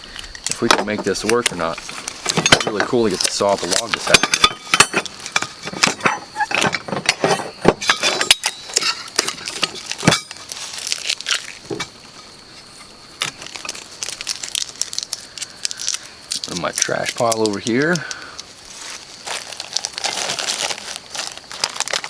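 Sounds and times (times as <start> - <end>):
plastic packaging crackling: 0.0 - 6.9, 7.9 - 22.0
small metal parts clinking: 0.2 - 11.9, 13.2 - 22.0.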